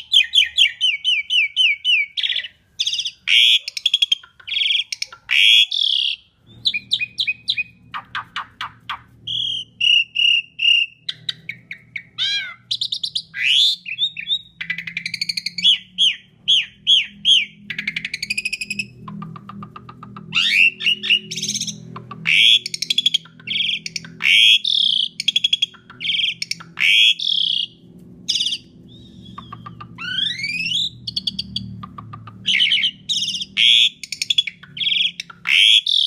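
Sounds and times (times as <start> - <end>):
starling singing: 0.0 - 36.0.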